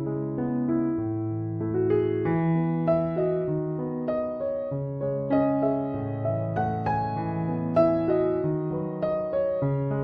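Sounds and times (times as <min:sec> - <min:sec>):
slow gentle piano music: 0:00.0 - 0:10.0.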